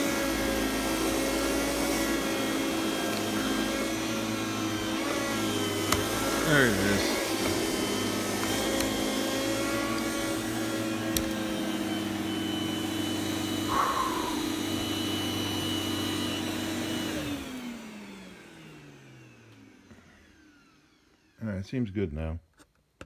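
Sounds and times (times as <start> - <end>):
vacuum cleaner motor whining: 0.0 - 21.4.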